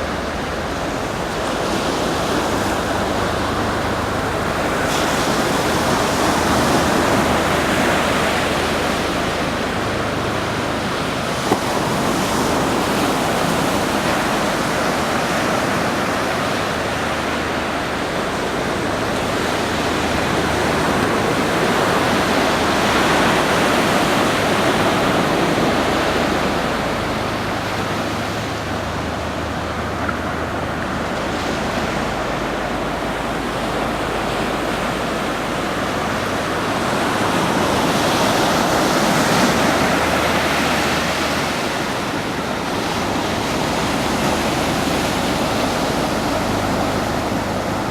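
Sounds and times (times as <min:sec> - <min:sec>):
ocean surf breaking on beach: 0:00.0 - 0:47.9.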